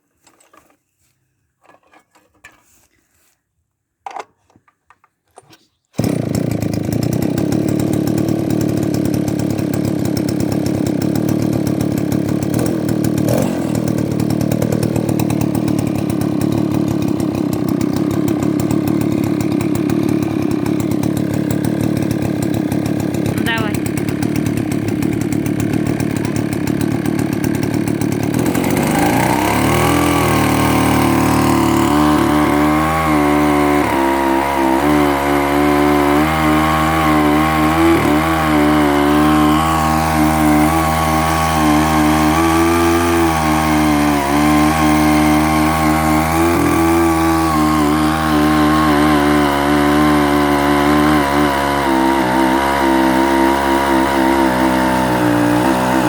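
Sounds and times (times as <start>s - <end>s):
chainsaw engine running: 6.0s - 56.0s.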